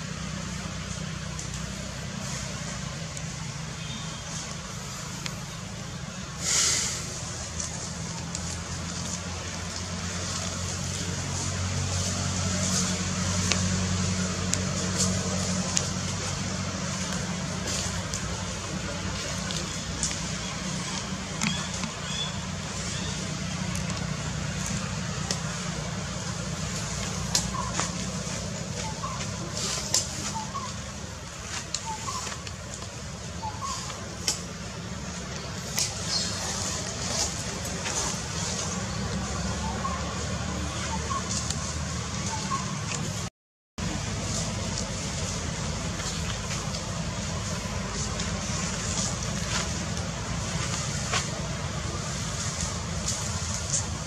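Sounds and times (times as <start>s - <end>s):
dry leaves crackling: 0.0s - 54.0s
low outdoor rumble: 0.0s - 54.0s.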